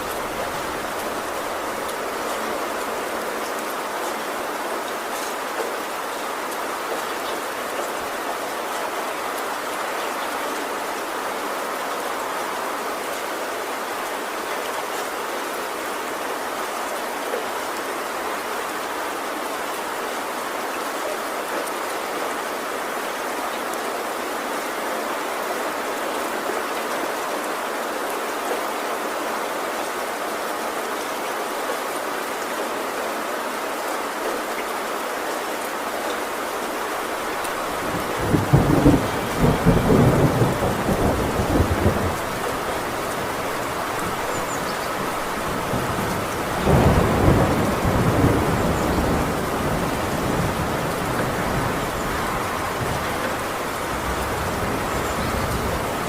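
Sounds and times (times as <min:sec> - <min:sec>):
heavy rain on a tin roof: 0:00.0 - 0:56.0.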